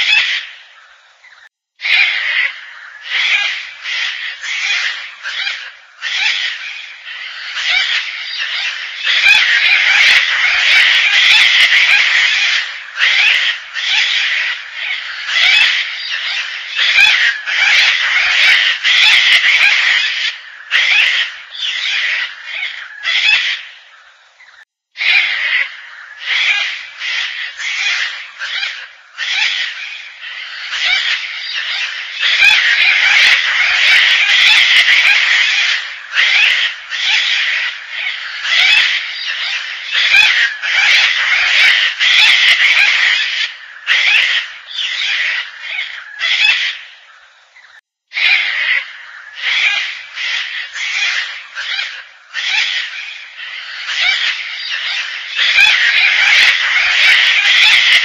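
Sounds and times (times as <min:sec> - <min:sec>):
cockatoo harsh rasping calls: 0:00.0 - 0:00.6, 0:01.3 - 0:58.0.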